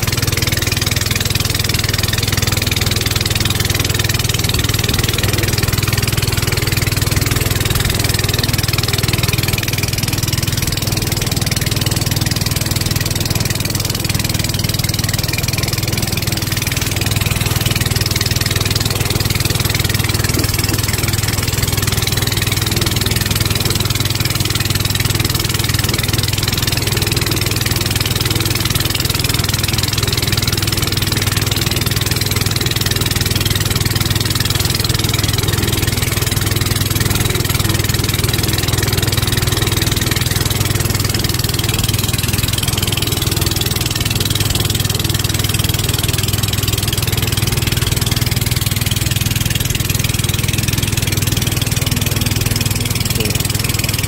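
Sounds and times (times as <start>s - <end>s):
boat engine humming: 0.0s - 54.0s
water rushing along hull: 0.0s - 54.0s.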